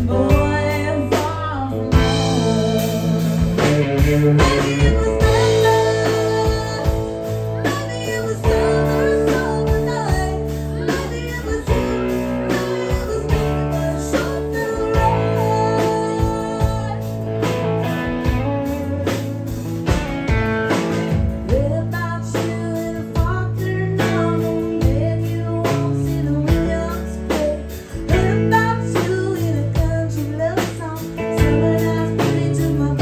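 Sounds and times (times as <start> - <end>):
woman singing: 0.0 - 19.5, 21.2 - 33.0
bass guitar: 0.0 - 33.0
steady drum beat: 0.0 - 33.0.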